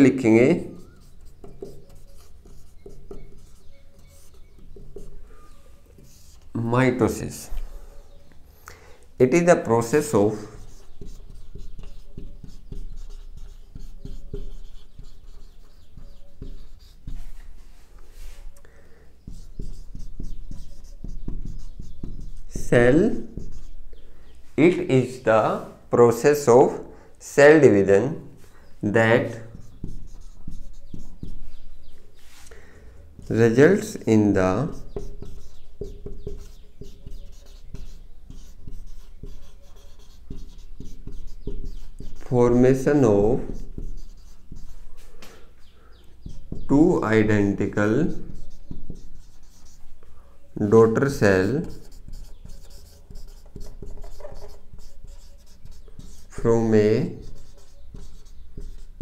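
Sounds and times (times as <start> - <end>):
marker pen writing on whiteboard: 0.0 - 7.7, 9.3 - 24.0, 28.5 - 32.4, 33.0 - 59.0.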